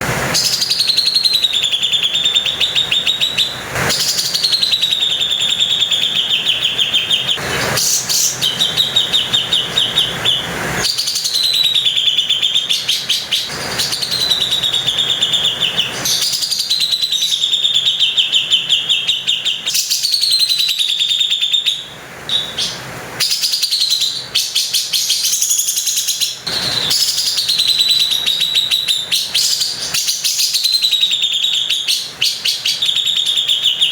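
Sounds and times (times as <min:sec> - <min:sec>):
bulbul rattling call: 0:00.3 - 0:33.9.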